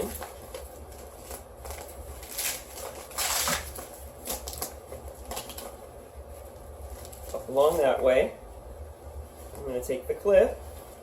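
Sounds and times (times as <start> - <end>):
strap and fabric rustling: 0.0 - 11.0.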